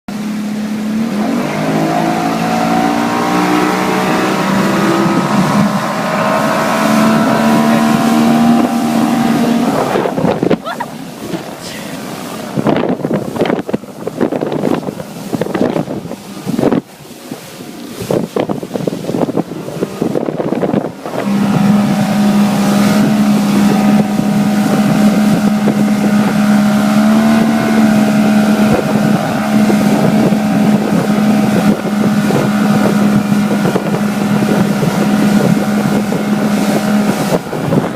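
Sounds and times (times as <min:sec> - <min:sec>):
motorboat engine drone: 0:00.1 - 0:37.9
water noise: 0:00.1 - 0:37.9
wind noise: 0:00.2 - 0:37.9.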